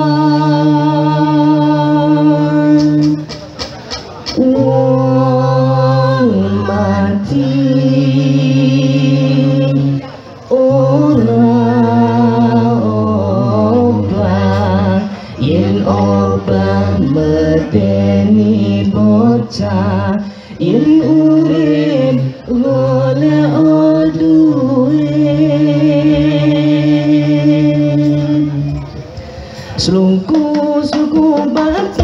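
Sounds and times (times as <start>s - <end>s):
group chanting devotional song: 0.0s - 32.0s.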